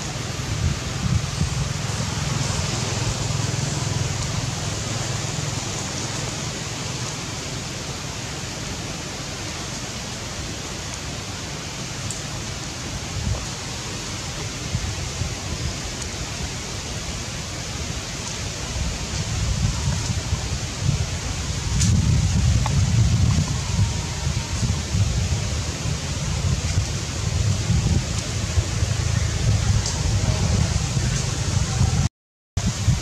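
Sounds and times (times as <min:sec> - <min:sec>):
steady outdoor hiss: 0:00.0 - 0:33.0
wind rumble on microphone: 0:00.0 - 0:33.0.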